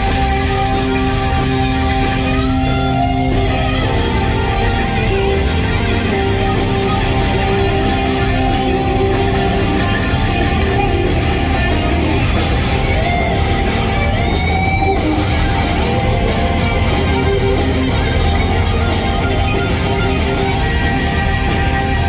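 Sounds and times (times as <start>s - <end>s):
bass guitar: 0.0s - 22.0s
drums: 0.0s - 22.0s
electric guitar lead: 0.0s - 22.0s.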